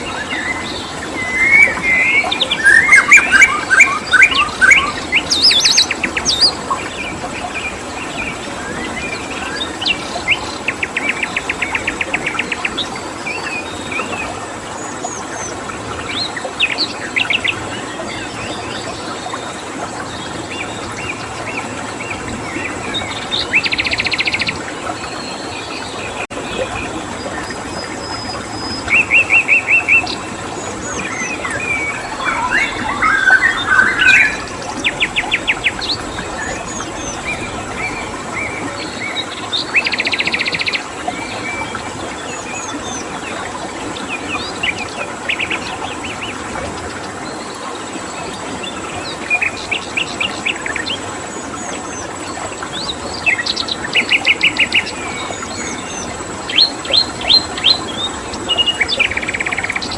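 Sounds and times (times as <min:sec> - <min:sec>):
rushing water: 0:00.0 - 0:59.9
songbirds chirping and trilling: 0:00.0 - 0:59.9.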